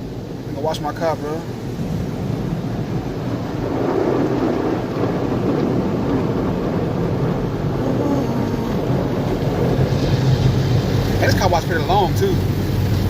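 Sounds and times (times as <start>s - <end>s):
automatic car wash from inside car: 0.0s - 13.0s.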